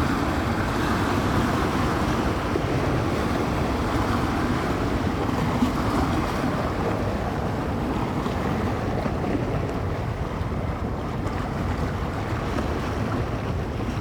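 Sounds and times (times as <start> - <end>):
small waves washing on shore: 0.0 - 14.0
wind rumbling on microphone: 0.0 - 14.0.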